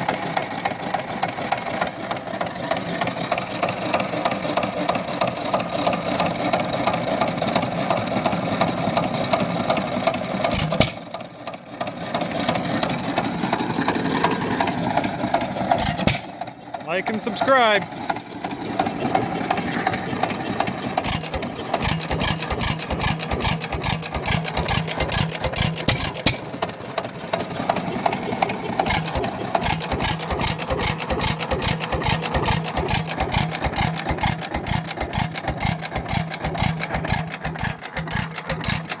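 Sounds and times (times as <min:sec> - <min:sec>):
stationary engine clattering: 0:00.0 - 0:39.0.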